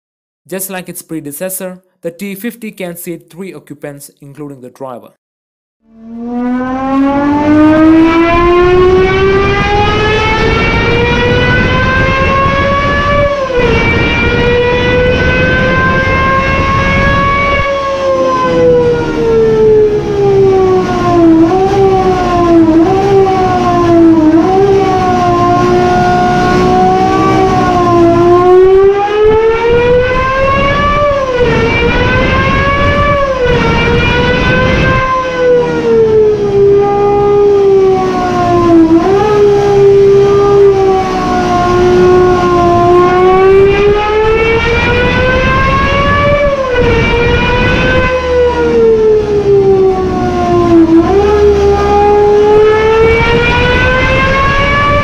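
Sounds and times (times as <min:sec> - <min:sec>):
race car engine wailing: 0:06.4 - 0:55.0.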